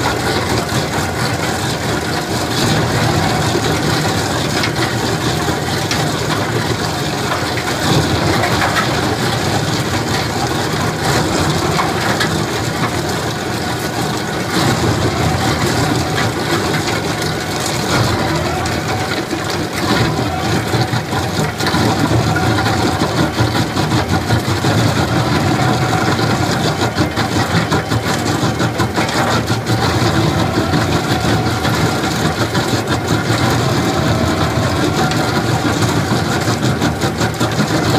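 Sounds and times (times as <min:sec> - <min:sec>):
diesel engine running: 0:00.0 - 0:37.9
saw crunching and rattling through soil: 0:00.0 - 0:37.9.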